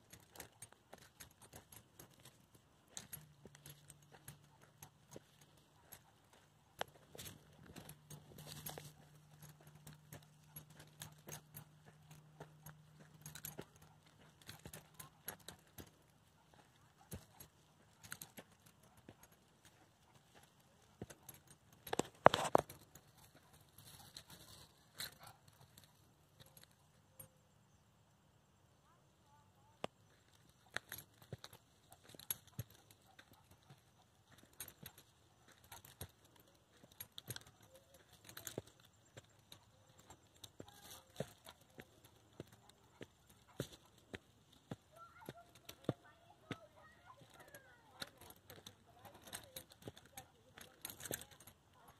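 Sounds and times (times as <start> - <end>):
footsteps on gravel steps: 0.0 - 26.6, 29.8 - 51.9.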